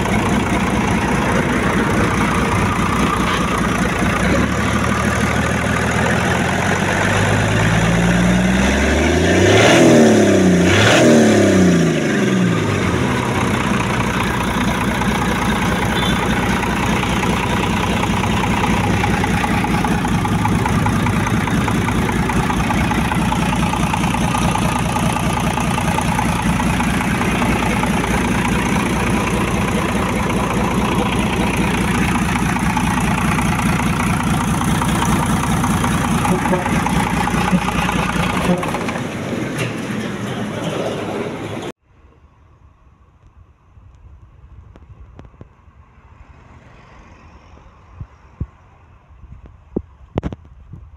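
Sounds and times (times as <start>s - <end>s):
diesel engine revving and idling: 0.0s - 41.8s.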